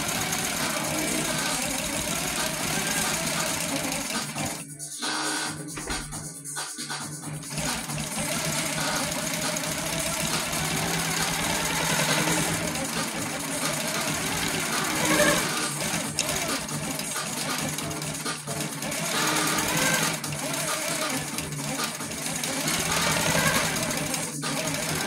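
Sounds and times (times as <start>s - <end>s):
quilting machine stitching: 0.0s - 6.2s, 7.2s - 25.0s.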